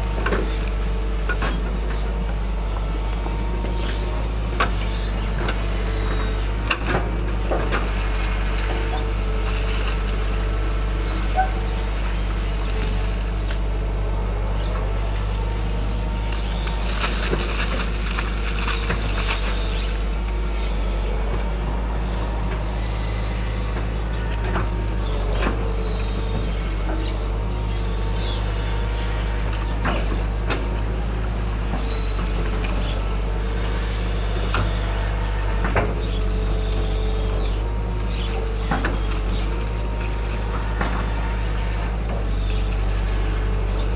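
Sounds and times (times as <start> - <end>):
excavator diesel engine humming: 0.0 - 43.9.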